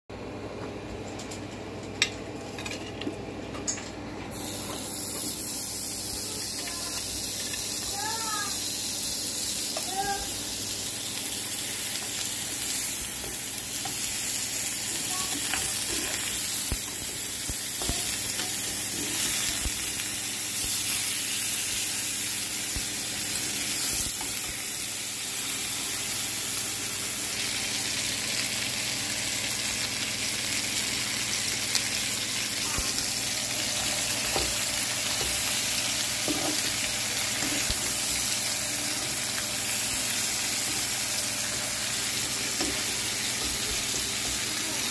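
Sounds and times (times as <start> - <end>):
meat sizzling in a frying pan: 4.3 - 44.9.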